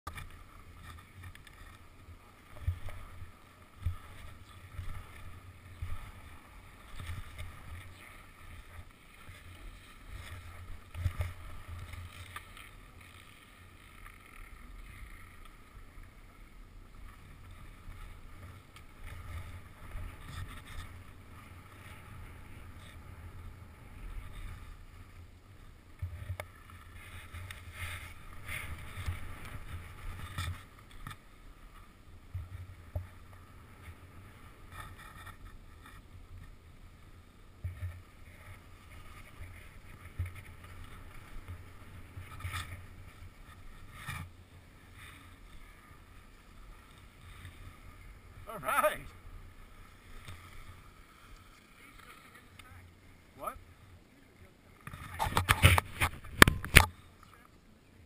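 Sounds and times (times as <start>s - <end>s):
skis scraping over snow: 0.1s - 57.2s.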